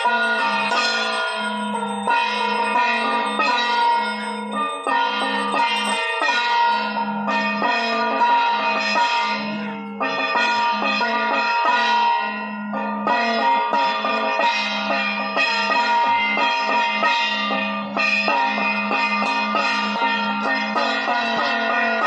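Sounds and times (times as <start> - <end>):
ringing metallic percussion: 0.0 - 22.0.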